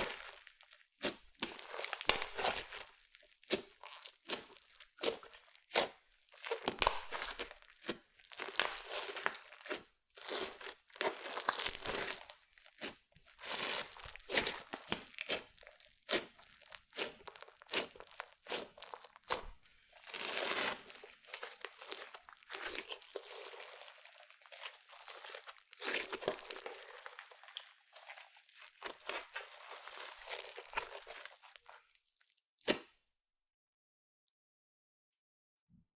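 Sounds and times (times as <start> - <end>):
sticky crackles and pops: 0.0 - 32.8
hands squishing slime: 0.0 - 32.9.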